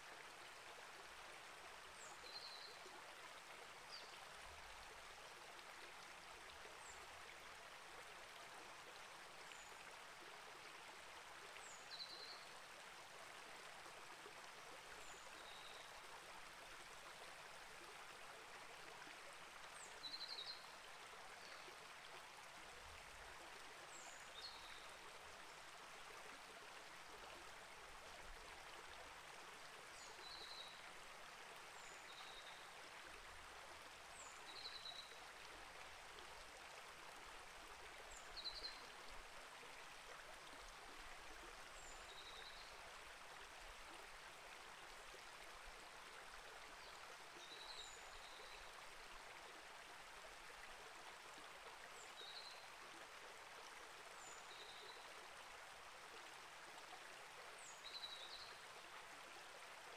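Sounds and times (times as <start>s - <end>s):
creek flowing: 0.0s - 59.9s.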